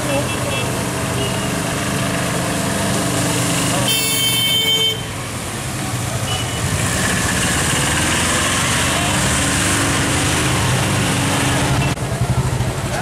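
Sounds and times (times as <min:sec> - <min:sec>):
road noise hiss: 0:00.0 - 0:13.0.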